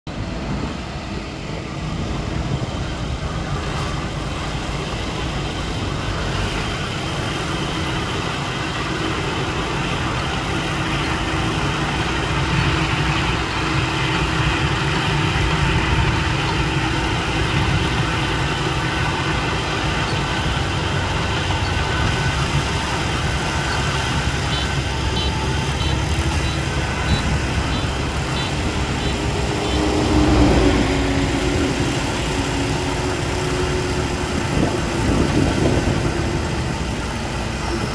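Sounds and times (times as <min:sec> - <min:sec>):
combine harvester droning: 0:00.1 - 0:37.9.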